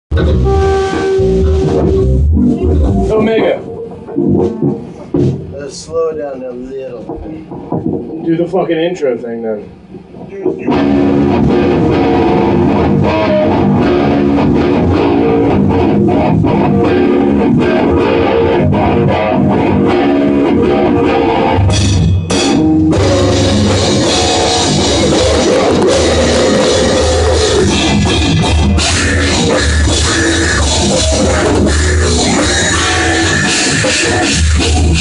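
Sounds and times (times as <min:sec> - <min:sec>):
heavy rock band playing: 0:00.1 - 0:05.6, 0:10.6 - 0:35.0
electric guitar riffing: 0:00.1 - 0:06.0, 0:09.8 - 0:35.0
drum kit: 0:00.1 - 0:08.5, 0:09.8 - 0:35.0.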